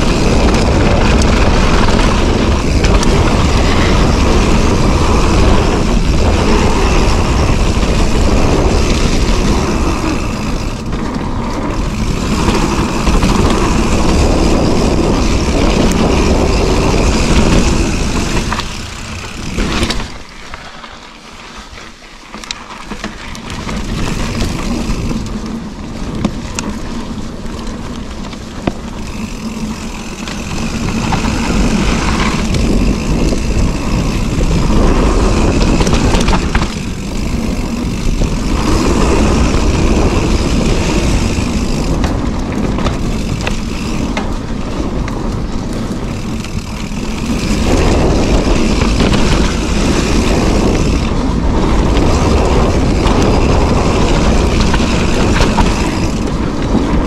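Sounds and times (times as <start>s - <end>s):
tyres rolling on dirt: 0.0s - 57.0s
wind rushing over microphone: 0.0s - 57.0s.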